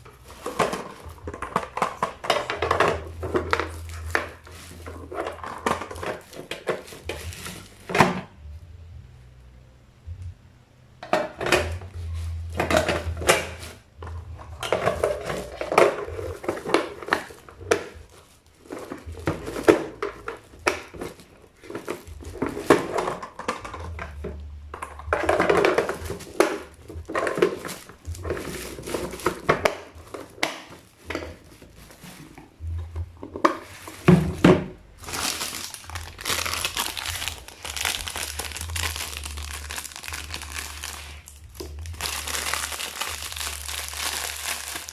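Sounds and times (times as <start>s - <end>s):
packaging crinkling: 0.0s - 8.3s, 12.1s - 24.2s, 25.1s - 32.6s, 33.3s - 44.9s.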